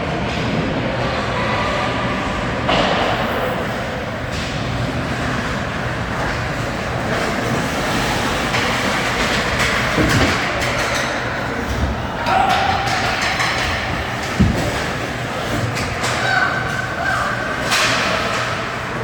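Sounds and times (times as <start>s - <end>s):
ice hockey arena din: 0.0s - 19.0s.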